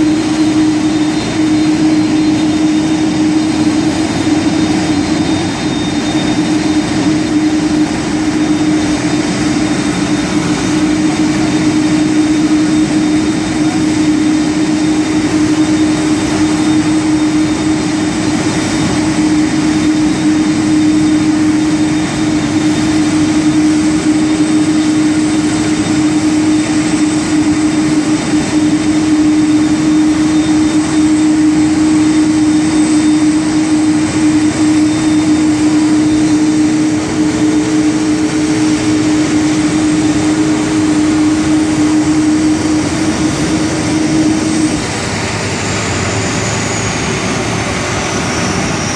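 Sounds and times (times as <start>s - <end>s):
aircraft turbine drone: 0.0s - 48.9s.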